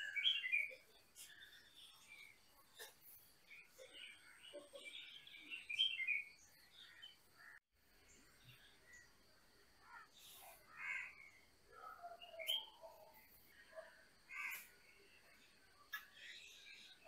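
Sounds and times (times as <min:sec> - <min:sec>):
birds chirping: 0:00.0 - 0:09.2, 0:09.8 - 0:17.0.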